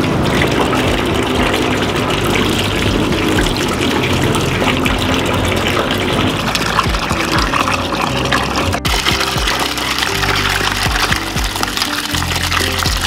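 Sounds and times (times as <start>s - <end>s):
tap water running and splashing: 0.0s - 13.0s.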